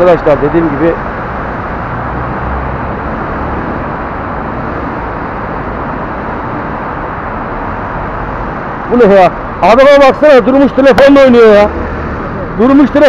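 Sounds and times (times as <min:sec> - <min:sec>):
surrounding traffic: 0:00.0 - 0:13.0.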